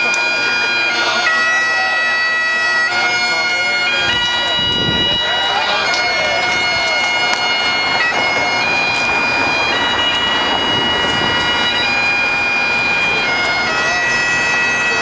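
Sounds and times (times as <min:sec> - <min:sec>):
bagpipes playing slow tune: 0:00.0 - 0:15.0.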